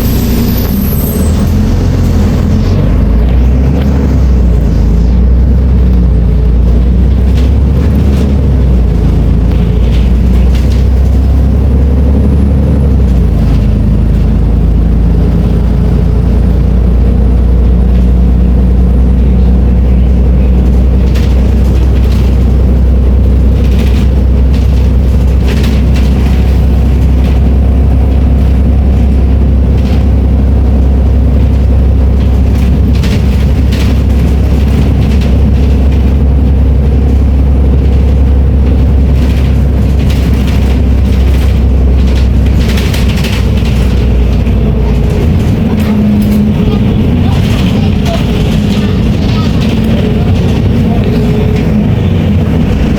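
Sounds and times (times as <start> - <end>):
bus diesel engine drone: 0.0 - 52.9.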